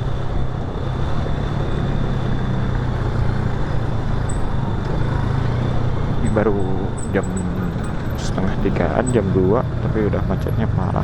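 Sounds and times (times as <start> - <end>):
motorcycle engine running: 0.0 - 11.0
road and wind noise: 0.0 - 11.0.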